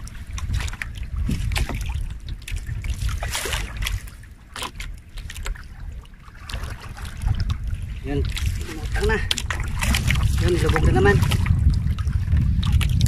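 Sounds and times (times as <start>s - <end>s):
waves lapping against boat hull: 0.0s - 13.0s
wind rumble on microphone: 0.0s - 13.0s.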